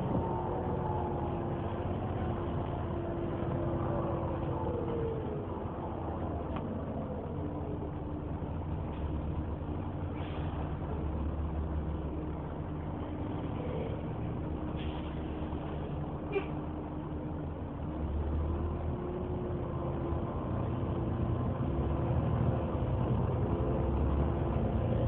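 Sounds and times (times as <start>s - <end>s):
bus engine idling: 0.0s - 25.0s.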